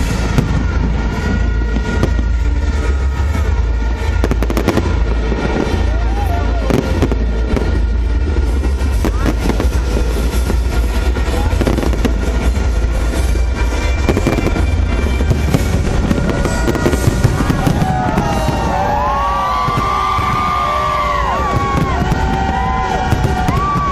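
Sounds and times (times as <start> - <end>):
fireworks bangs and crackling: 0.0 - 23.9
low rumble: 0.0 - 23.9.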